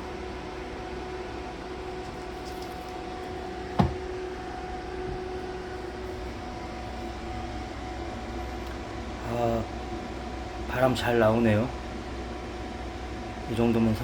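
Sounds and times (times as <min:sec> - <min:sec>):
fan motor whirring: 0:00.0 - 0:14.0.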